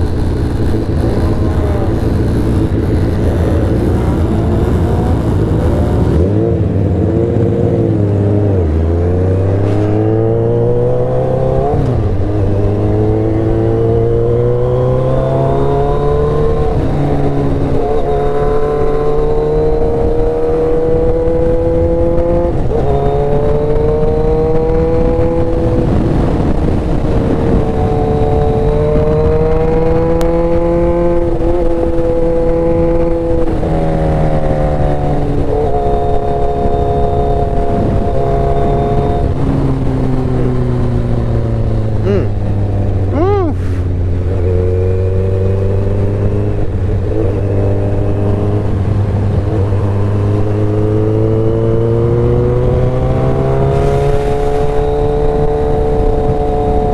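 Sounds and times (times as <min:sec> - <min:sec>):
motorcycle engine revving: 0:00.0 - 0:56.9
wind and road noise: 0:00.0 - 0:56.9.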